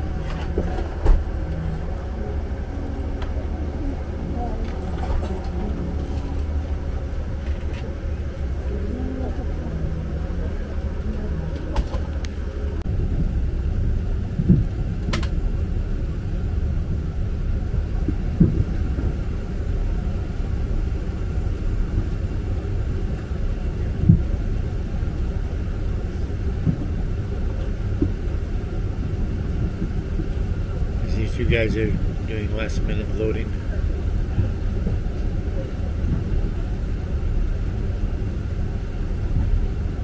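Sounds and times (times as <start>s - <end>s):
airplane cabin rumble: 0.0s - 40.0s.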